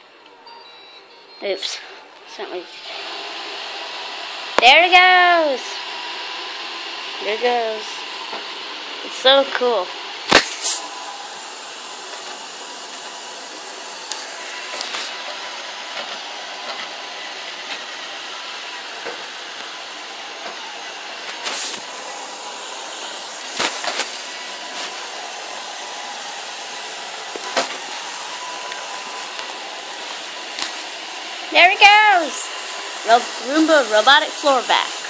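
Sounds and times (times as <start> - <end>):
robot vacuum whirring: 2.4 - 35.0.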